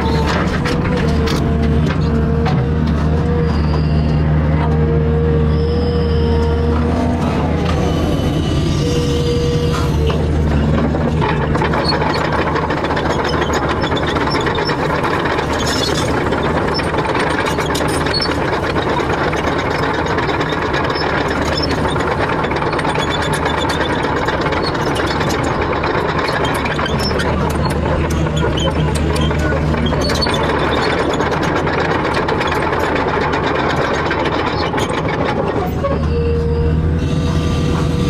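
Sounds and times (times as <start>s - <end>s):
excavator engine running: 0.0s - 38.0s.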